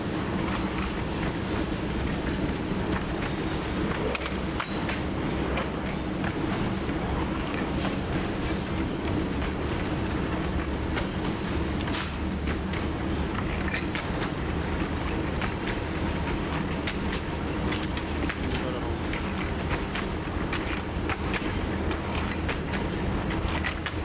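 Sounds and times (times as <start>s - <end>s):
diesel locomotive engine droning: 0.0s - 24.0s
wheels clicking over rail joints: 0.0s - 24.0s.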